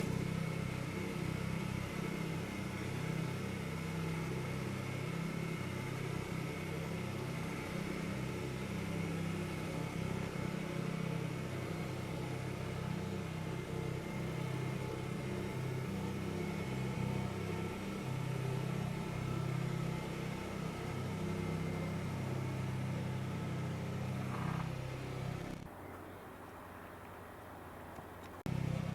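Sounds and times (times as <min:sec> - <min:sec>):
thin high whine: 0:00.0 - 0:28.9
tractor diesel engine running: 0:00.0 - 0:28.9.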